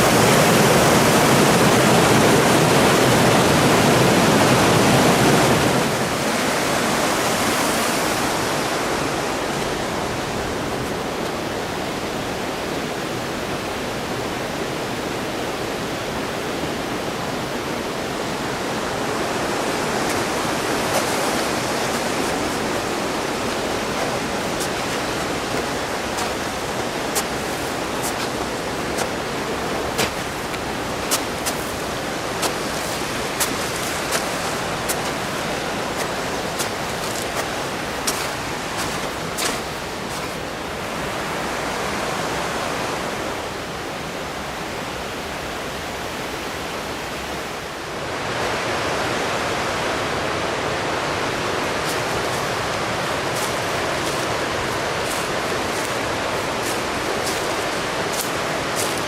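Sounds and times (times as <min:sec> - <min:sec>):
mountain stream rushing: 0:00.0 - 0:59.0.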